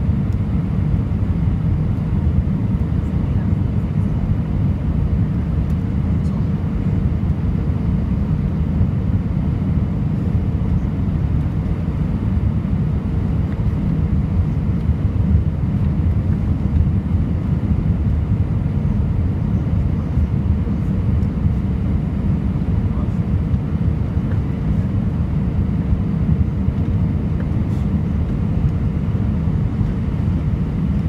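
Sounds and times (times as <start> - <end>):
jet engines and airflow rumble: 0.0 - 31.0.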